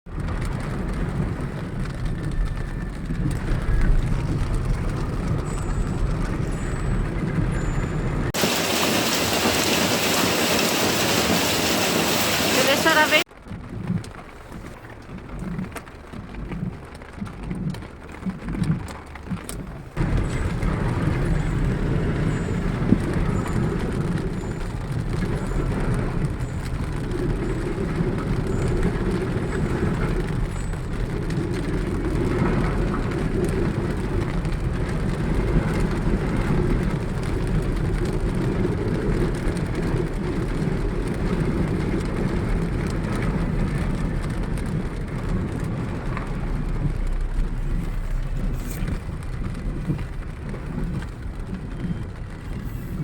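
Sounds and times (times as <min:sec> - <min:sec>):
heavy rainstorm: 0:00.1 - 0:53.0
low rumbling bumps: 0:00.1 - 0:53.0.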